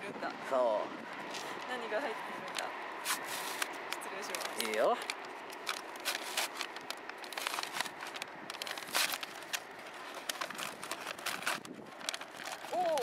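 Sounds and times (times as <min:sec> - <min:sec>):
wind: 0:00.0 - 0:13.0
paper crinkling: 0:01.3 - 0:13.0.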